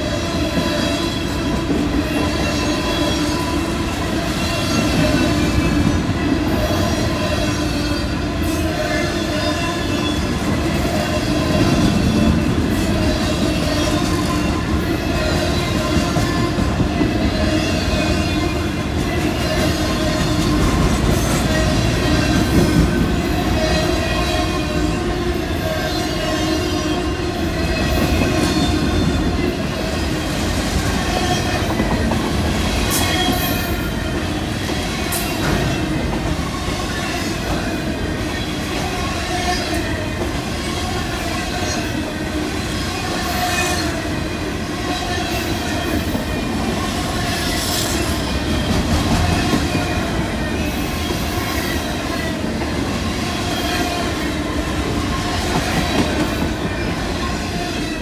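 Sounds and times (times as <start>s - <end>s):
freight train wheels rumbling: 0.0s - 58.0s
sharp train clanks: 0.0s - 58.0s.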